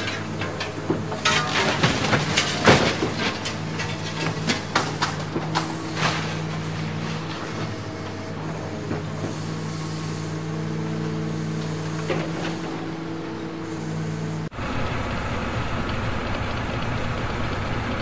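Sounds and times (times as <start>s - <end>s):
engine running: 0.0s - 18.0s
deep engine rumble: 1.9s - 18.0s.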